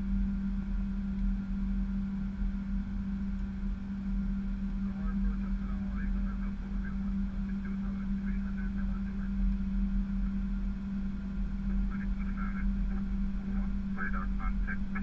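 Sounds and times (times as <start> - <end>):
airliner drone in cockpit: 0.0 - 15.0.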